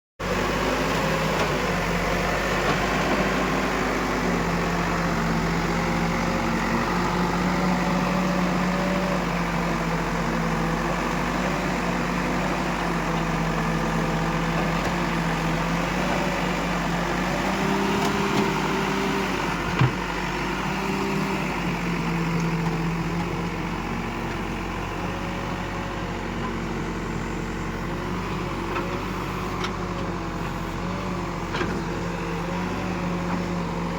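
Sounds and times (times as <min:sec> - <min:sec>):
backhoe diesel engine working: 0:00.2 - 0:33.9.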